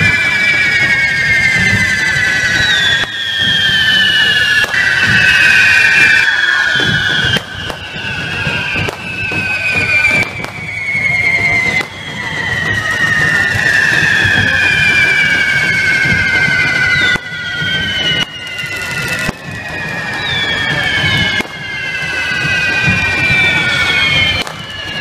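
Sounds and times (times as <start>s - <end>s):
firework fountains whistling and hissing: 0.0s - 25.0s.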